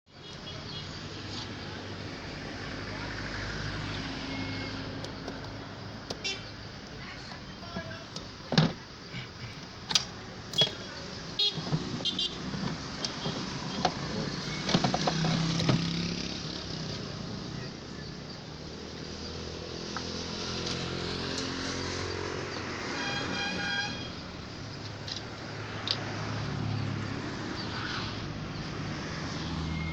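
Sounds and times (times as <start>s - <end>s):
diesel engine starting and running: 1.4s - 29.9s.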